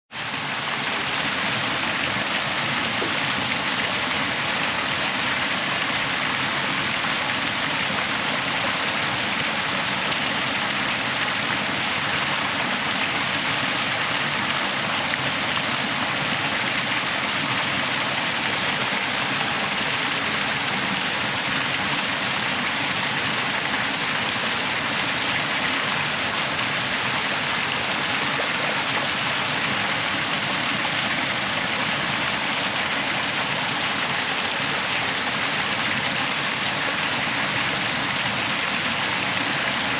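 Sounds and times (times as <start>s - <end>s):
small waterfall splashing: 0.1s - 39.9s.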